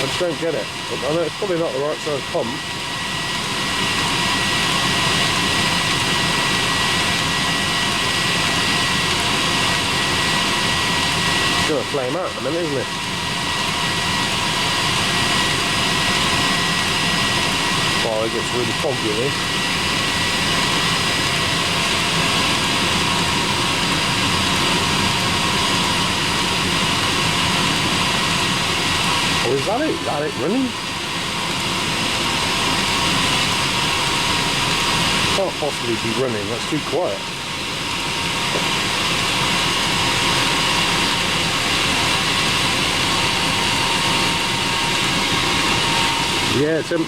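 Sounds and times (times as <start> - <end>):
diesel heater fan roar with whine: 0.0 - 47.0.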